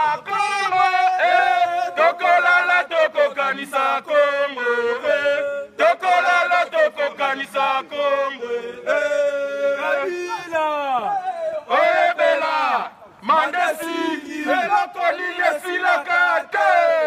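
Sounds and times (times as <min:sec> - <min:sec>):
demonstrators singing a chant: 0:00.0 - 0:17.0.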